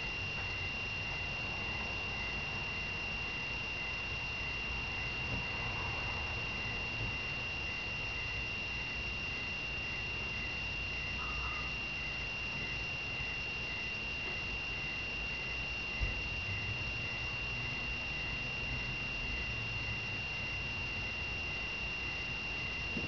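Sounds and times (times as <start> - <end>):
high-pitched electronic whine: 0.0 - 23.0.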